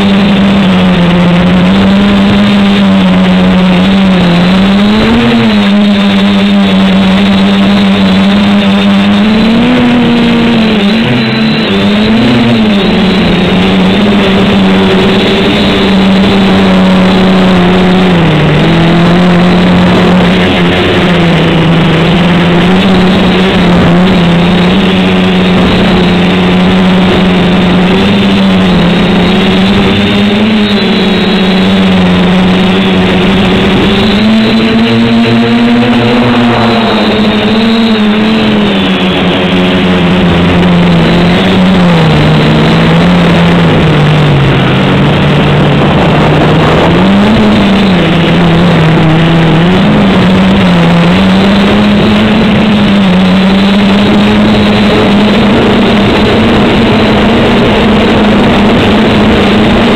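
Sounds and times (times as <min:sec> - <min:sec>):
quadcopter motors buzzing: 0:00.0 - 0:59.9.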